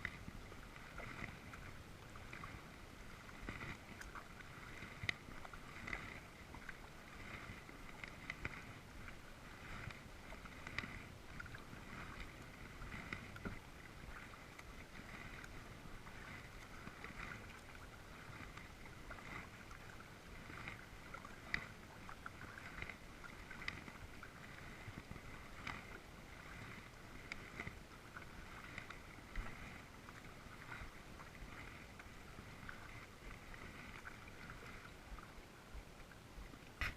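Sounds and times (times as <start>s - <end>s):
paddle splashing and dripping: 0.0s - 36.9s.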